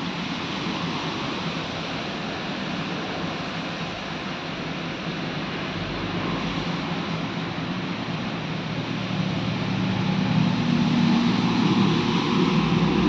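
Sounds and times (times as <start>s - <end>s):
low engine hum: 0.1s - 13.0s.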